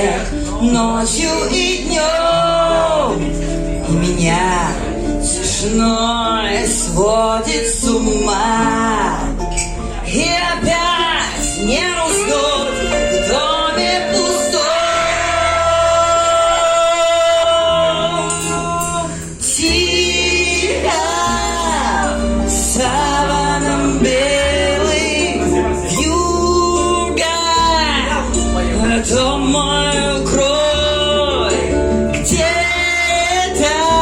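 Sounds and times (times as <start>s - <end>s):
woman singing: 0.0s - 9.4s, 10.1s - 34.0s
instrumental backing with bass: 0.0s - 34.0s.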